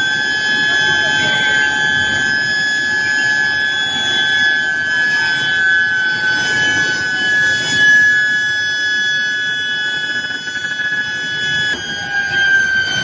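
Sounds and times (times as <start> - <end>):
induction coils whining: 0.0 - 13.0.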